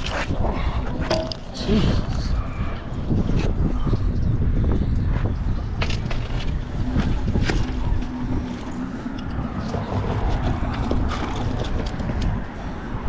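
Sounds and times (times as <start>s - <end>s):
distant traffic: 0.0s - 13.0s
wind on microphone: 0.0s - 13.0s.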